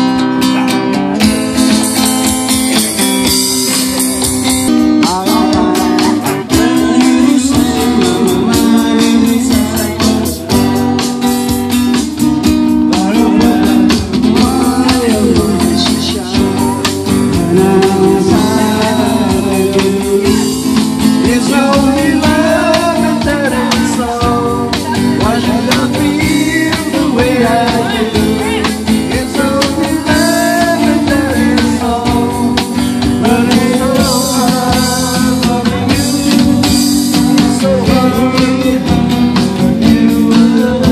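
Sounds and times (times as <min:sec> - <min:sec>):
acoustic guitar strummed: 0:00.0 - 0:40.9
electronic percussion pad beat: 0:01.2 - 0:40.9
man singing into a microphone: 0:03.4 - 0:11.2, 0:12.8 - 0:40.9.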